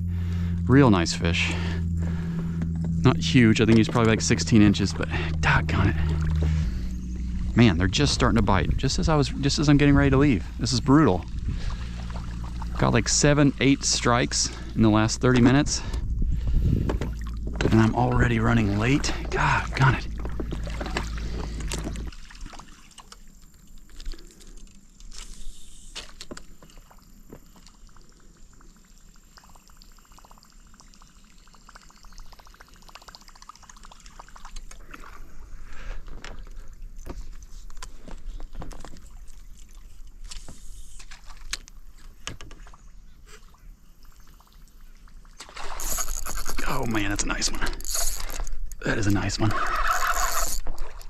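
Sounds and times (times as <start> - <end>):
water sloshing around boat: 0.0 - 51.0
splashes: 3.2 - 16.0, 17.0 - 28.2, 28.8 - 38.1, 38.7 - 51.0.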